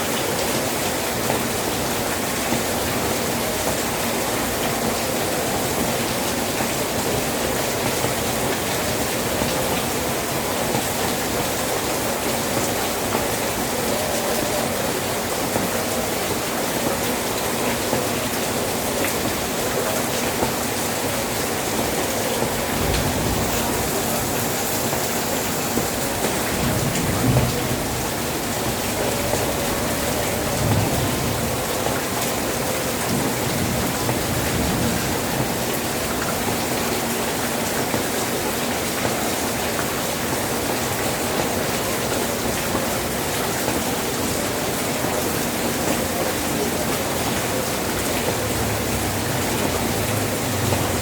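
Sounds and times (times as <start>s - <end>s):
steady rain pouring: 0.0s - 51.0s.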